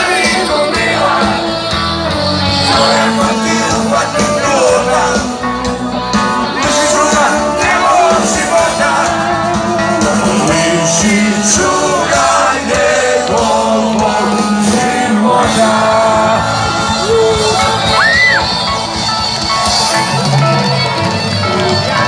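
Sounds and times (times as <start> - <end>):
loud singing: 0.0 - 22.0
rock band playing: 0.0 - 22.0.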